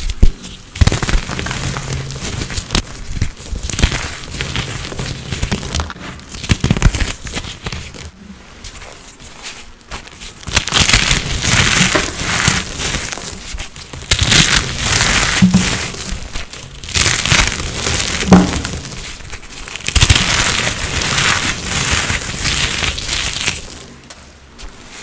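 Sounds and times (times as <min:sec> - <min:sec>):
powder blocks crunching: 0:00.3 - 0:09.0, 0:10.0 - 0:24.2.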